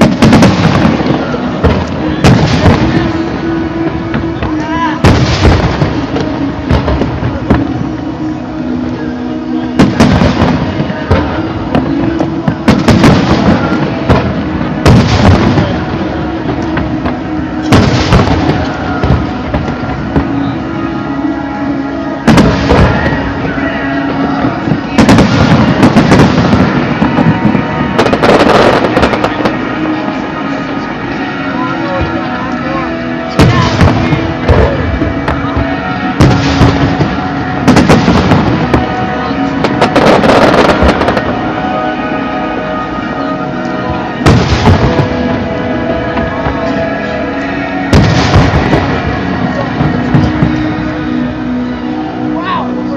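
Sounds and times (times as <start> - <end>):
loud firework bangs: 0.0 - 8.2, 9.7 - 20.8, 22.2 - 30.6, 33.0 - 41.6, 44.0 - 51.6
background music: 0.0 - 52.9
fireworks explosions rumbling: 0.0 - 52.9.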